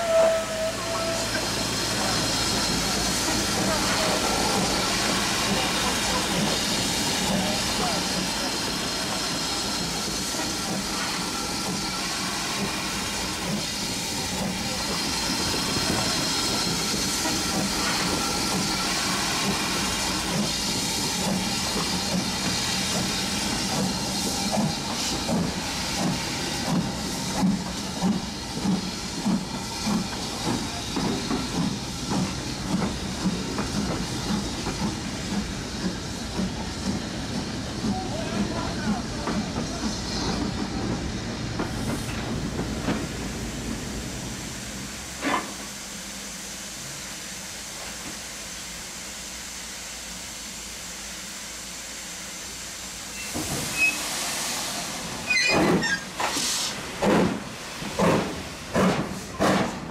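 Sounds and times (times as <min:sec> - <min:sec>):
steam locomotive hissing: 0:00.0 - 0:59.9
locomotive chuffing beat: 0:00.5 - 0:45.7, 0:54.5 - 0:59.9.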